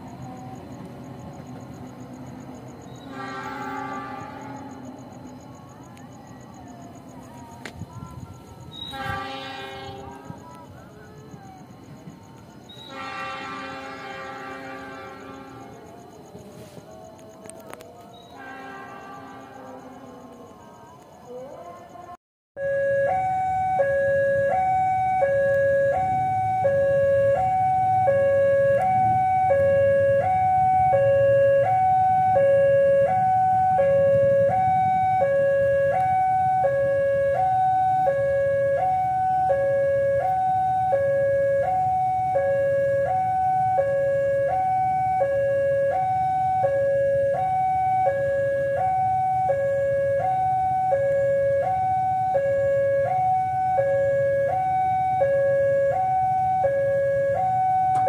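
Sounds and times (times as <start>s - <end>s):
two-tone warning alarm: 0.0s - 58.0s.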